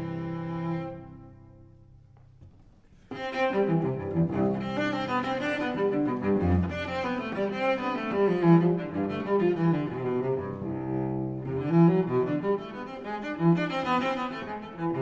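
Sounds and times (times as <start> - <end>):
slow cello melody: 0.0 - 15.0.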